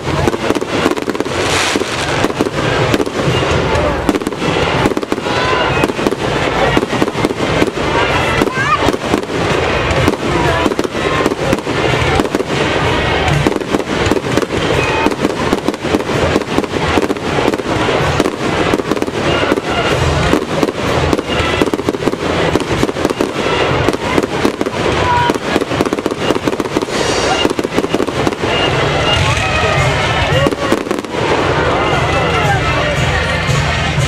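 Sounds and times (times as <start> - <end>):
fireworks bangs and crackling: 0.0 - 34.0.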